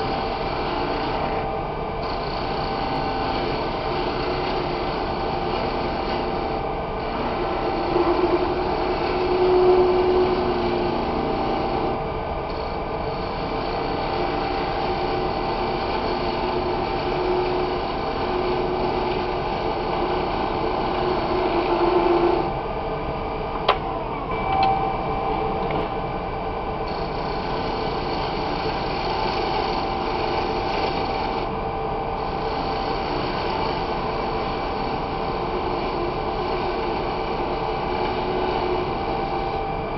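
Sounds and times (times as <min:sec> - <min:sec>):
gouge cutting spinning wood: 0:00.0 - 0:22.6, 0:26.8 - 0:39.8
wood lathe running: 0:00.0 - 0:22.7, 0:26.6 - 0:39.9.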